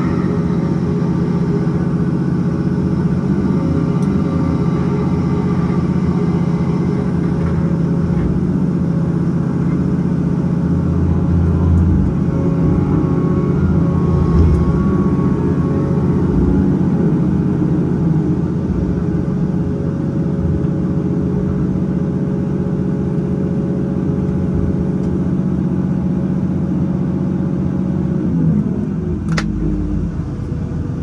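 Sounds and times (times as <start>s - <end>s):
diesel engine and hydraulics: 0.0s - 31.0s.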